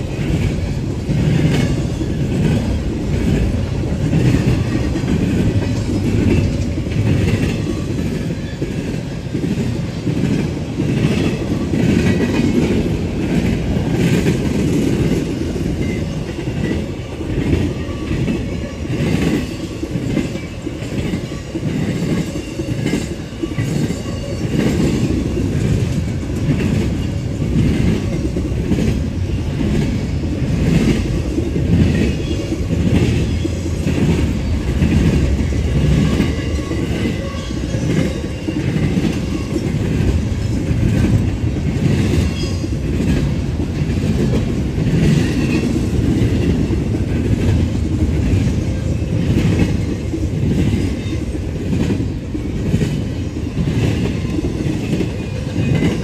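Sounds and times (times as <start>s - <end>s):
freight train rumble: 0.0s - 56.0s
wheels clacking over rail joints: 0.0s - 56.0s.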